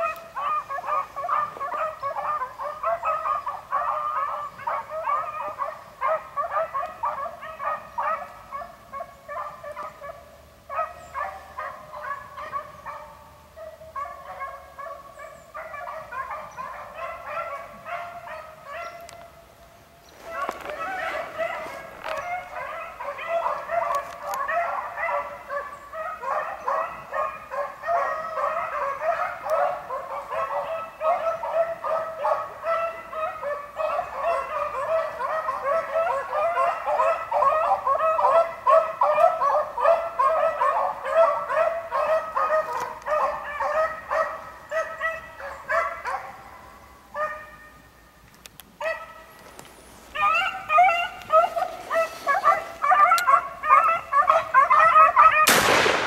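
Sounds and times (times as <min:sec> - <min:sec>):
beagles baying: 0:00.0 - 0:19.4, 0:20.0 - 0:48.0, 0:48.8 - 0:56.0.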